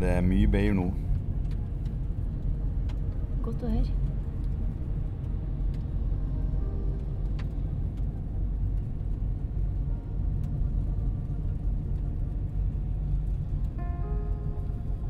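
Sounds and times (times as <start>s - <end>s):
car interior engine and road noise: 0.0s - 15.0s.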